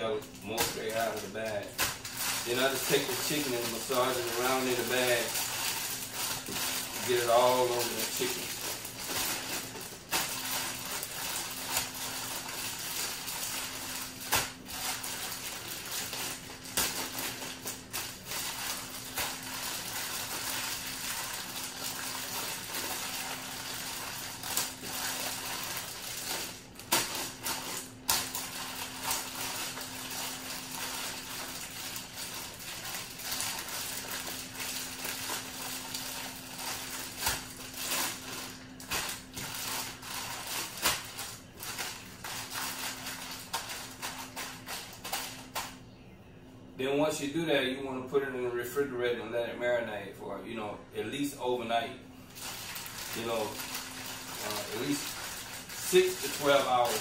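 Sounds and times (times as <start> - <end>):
steady low hum: 0.0 - 57.0
plastic bag crinkling: 0.1 - 45.8, 52.2 - 57.0.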